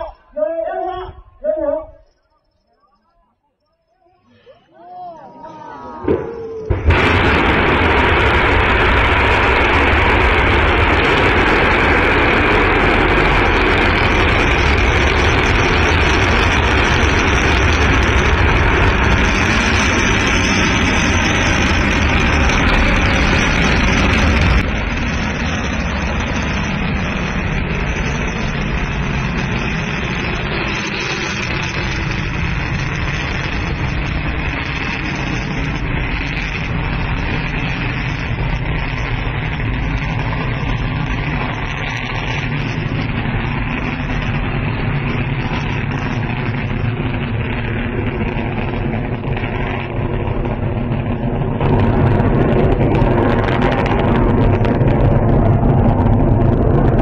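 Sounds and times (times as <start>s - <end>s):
distant rocket engine roar: 4.4s - 57.0s.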